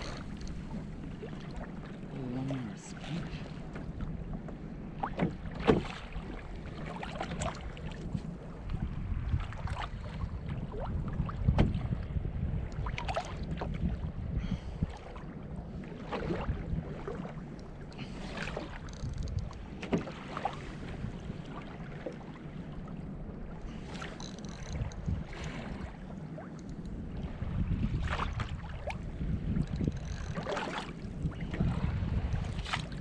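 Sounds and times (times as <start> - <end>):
wind on microphone: 0.0 - 22.0, 22.8 - 33.0
water splashes: 0.0 - 33.0
waves slapping against hull: 0.0 - 33.0.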